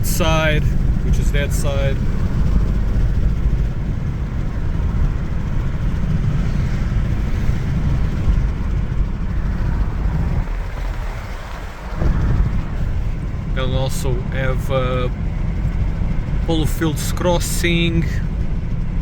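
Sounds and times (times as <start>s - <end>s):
road and wind noise: 0.0s - 19.0s
vehicle rumble: 0.0s - 19.0s.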